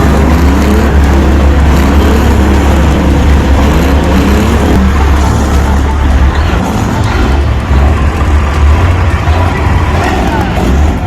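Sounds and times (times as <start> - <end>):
diesel truck engine under load: 0.0 - 11.0.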